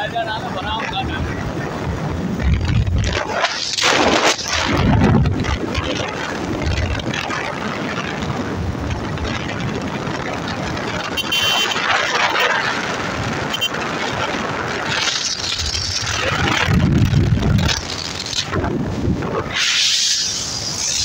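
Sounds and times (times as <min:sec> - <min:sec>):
tyres on wet asphalt: 0:00.0 - 0:21.0
wind and road noise: 0:00.0 - 0:21.0.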